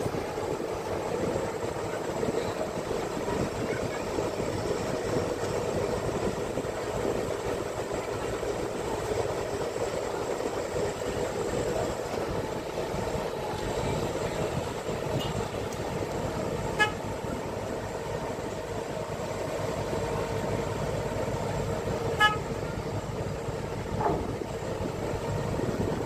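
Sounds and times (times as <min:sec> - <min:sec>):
ferry engine rumble: 0:00.0 - 0:26.0
vehicles idling: 0:00.0 - 0:26.0.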